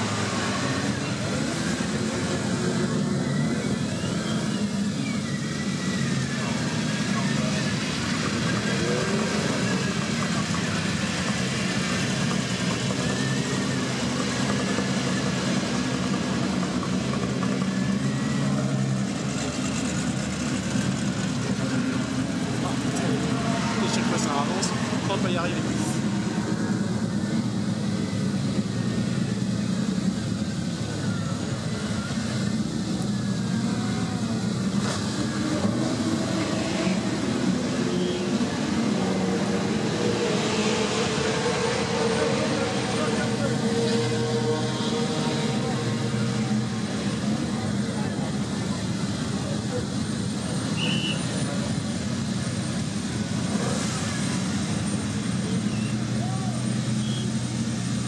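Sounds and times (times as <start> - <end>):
car engines running at low revs: 0.0 - 58.0.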